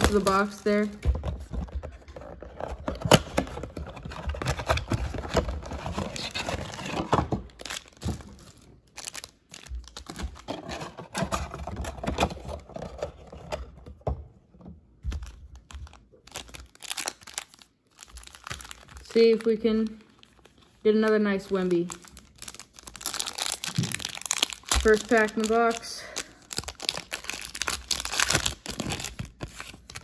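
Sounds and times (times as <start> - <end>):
card packs crinkling: 0.0 - 13.4, 15.1 - 30.0.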